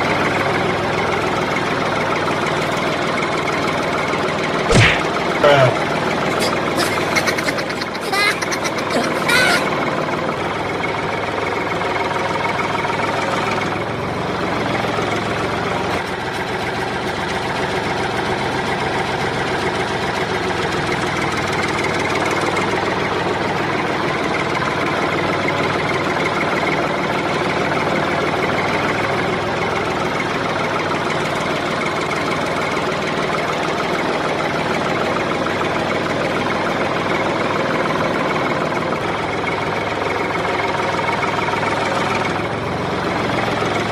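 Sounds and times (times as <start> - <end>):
small engine chugging: 0.0 - 43.9.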